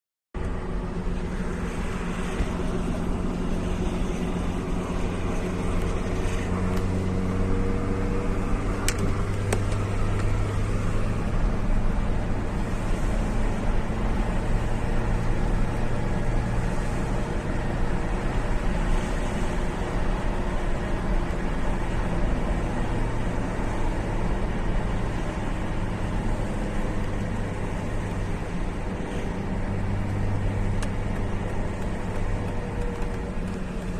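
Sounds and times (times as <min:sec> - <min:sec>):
car engine running under load: 0:00.4 - 0:33.9
engine rattle: 0:00.4 - 0:33.9.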